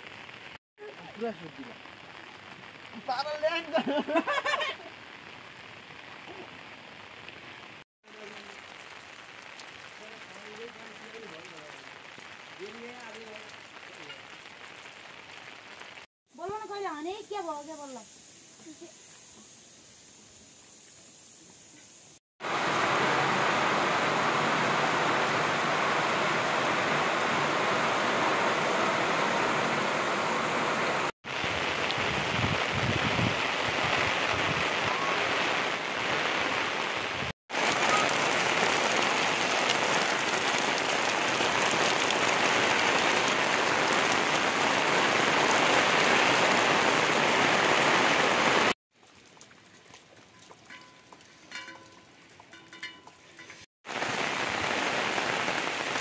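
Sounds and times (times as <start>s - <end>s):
heavy rain on leaves: 0.0s - 52.5s, 53.8s - 56.0s.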